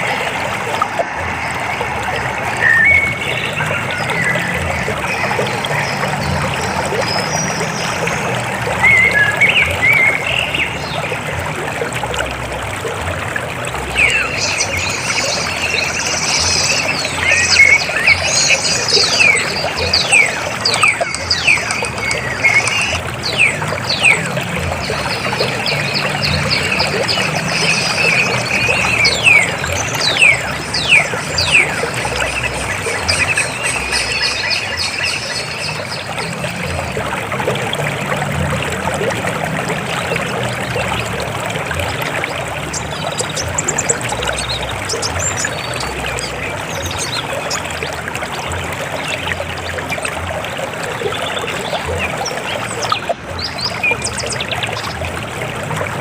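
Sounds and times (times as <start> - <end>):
river water flowing and splashing: 0.0 - 56.0.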